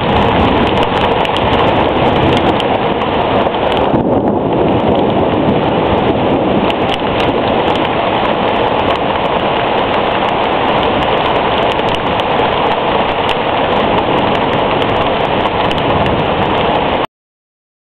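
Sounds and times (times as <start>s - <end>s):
heavy rain downpour: 0.0s - 17.1s
raindrops ticking close by: 0.0s - 17.1s.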